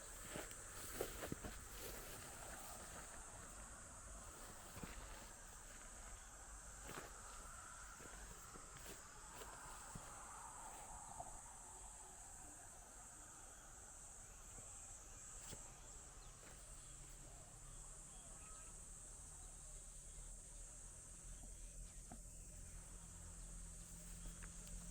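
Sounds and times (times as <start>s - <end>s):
high-pitched insect chorus: 0.0s - 24.9s.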